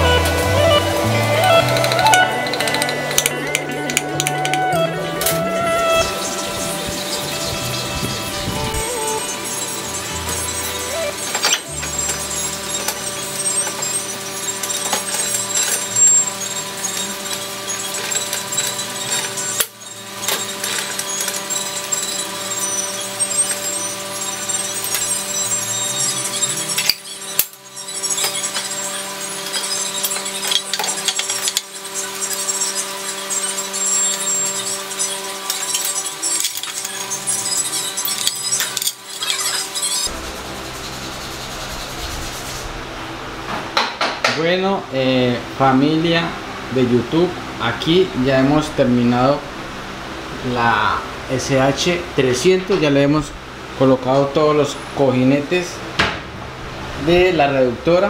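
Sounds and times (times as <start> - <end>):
steady background tone: 0.0 - 58.0
steady hum: 0.0 - 58.0.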